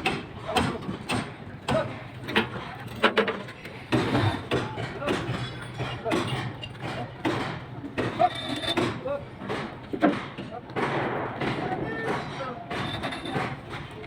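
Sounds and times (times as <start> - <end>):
construction knocks and clanks: 0.0 - 14.0.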